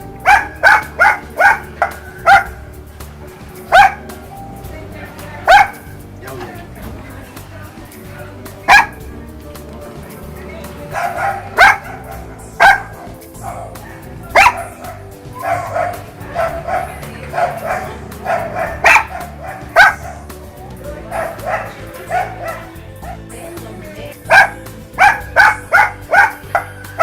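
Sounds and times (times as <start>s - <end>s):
background music: 0.0s - 27.0s.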